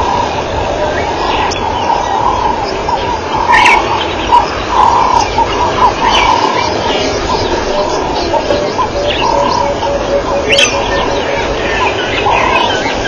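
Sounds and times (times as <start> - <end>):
birds calling and chirping: 0.0 - 13.0
evenly spaced low bird notes: 0.0 - 13.0
steady hiss: 0.0 - 13.0.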